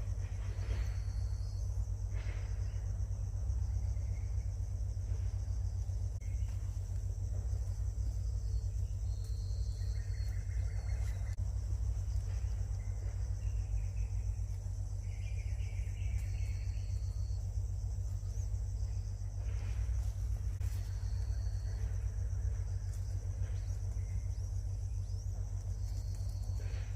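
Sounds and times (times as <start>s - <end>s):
constant low rumble: 0.0s - 26.9s
high insect chirring: 0.0s - 26.9s.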